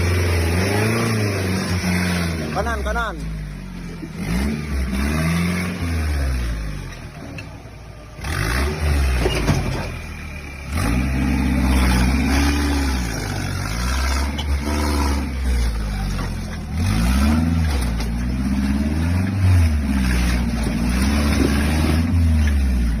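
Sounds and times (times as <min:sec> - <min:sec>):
jeep engine revving: 0:00.0 - 0:23.0.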